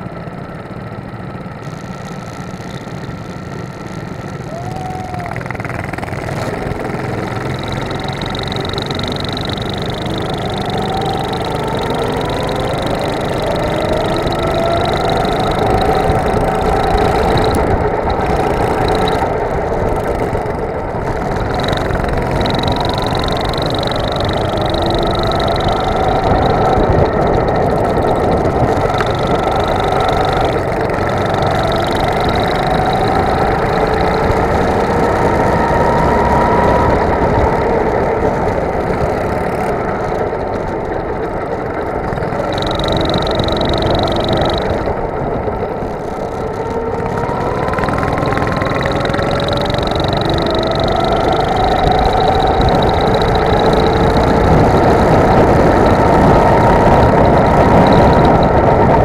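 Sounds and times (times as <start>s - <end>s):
go-kart engine accelerating: 0.0s - 59.0s.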